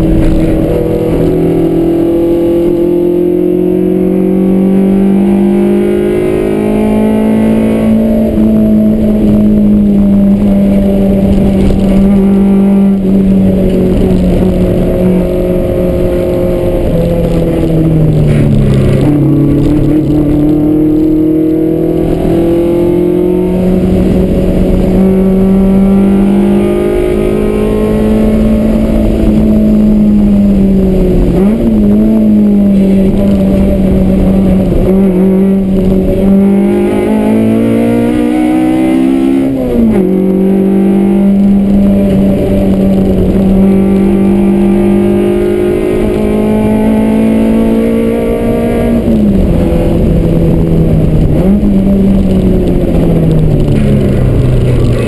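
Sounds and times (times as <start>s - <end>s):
car engine under hard driving: 0.0s - 55.0s.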